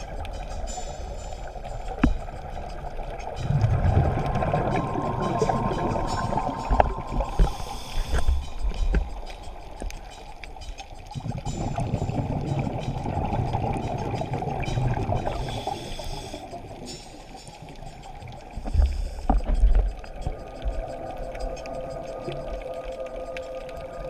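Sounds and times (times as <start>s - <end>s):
scuba bubbles: 0.0s - 24.0s
underwater rumble and gurgle: 0.0s - 24.0s.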